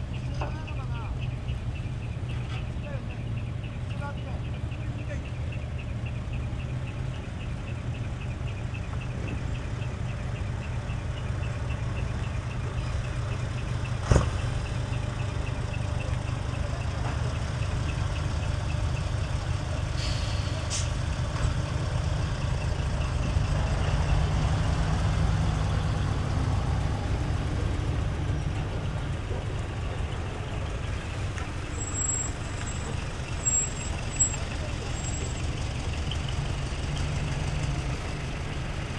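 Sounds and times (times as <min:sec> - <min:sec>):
diesel truck engine rumbling: 0:00.0 - 0:38.9.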